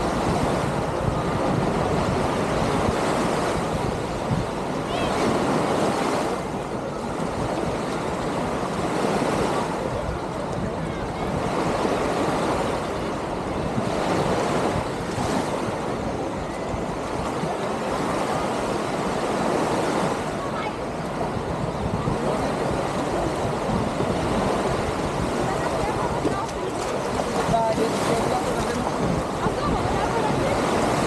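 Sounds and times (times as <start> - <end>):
small waves lapping on shore: 0.0 - 31.0.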